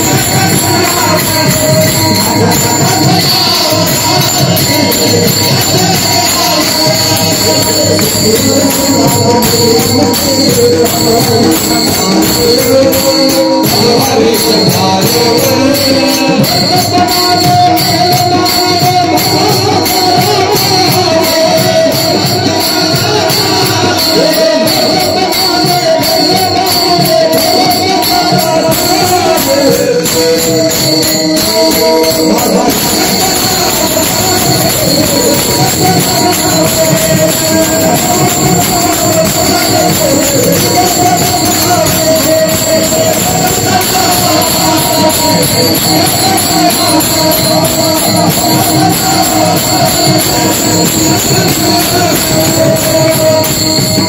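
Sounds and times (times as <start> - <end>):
fast drumming: 0.0 - 54.0
jingling metal percussion: 0.0 - 54.0.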